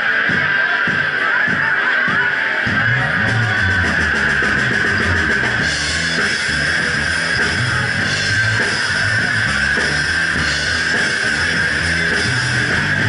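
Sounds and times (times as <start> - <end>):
bass guitar: 0.0 - 13.0
distorted electric guitar: 0.0 - 13.0
drum kit: 0.0 - 13.0.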